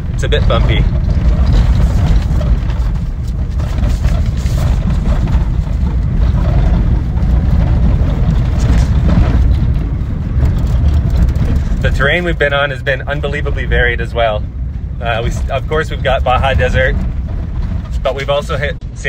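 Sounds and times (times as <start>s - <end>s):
truck driving over bumpy track: 0.0s - 19.0s.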